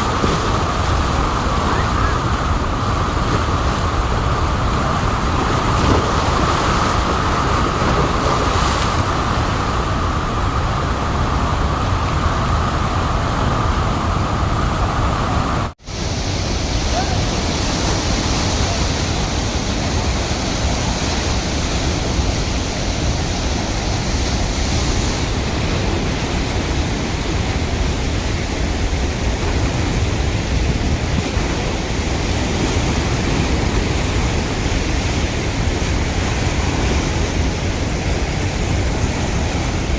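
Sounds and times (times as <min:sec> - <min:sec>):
water rushing through spillway: 0:00.0 - 0:39.9.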